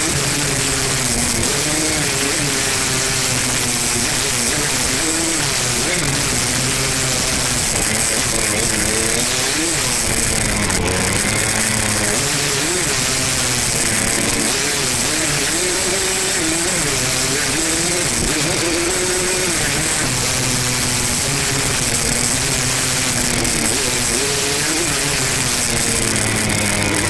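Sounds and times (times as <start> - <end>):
two-stroke dirt bike engine revving: 0.0 - 27.0.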